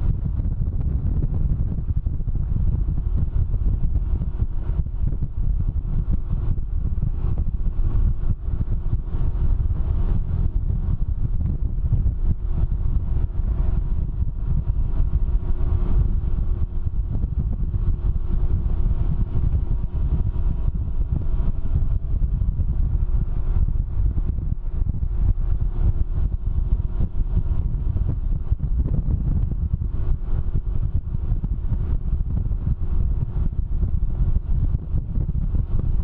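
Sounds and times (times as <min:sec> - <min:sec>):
faint engine drone: 0:00.0 - 0:36.0
wind buffeting microphone: 0:00.0 - 0:36.0.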